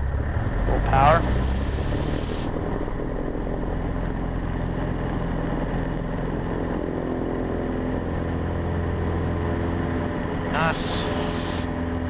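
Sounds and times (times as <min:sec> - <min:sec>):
small plane engine and propeller: 0:00.0 - 0:12.0.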